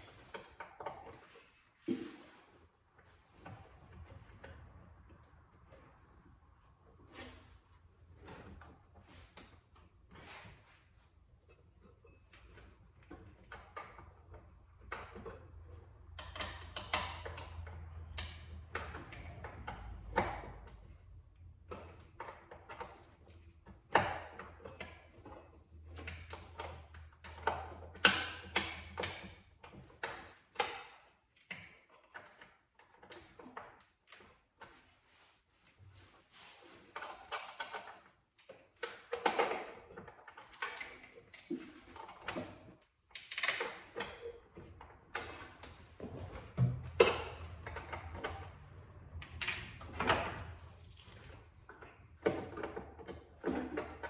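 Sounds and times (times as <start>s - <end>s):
hand tools clicking and clunking: 0.0s - 54.0s.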